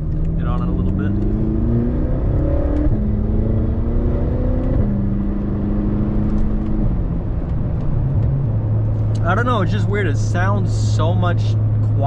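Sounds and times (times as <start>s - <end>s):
car engine accelerating through gears: 0.0s - 12.0s.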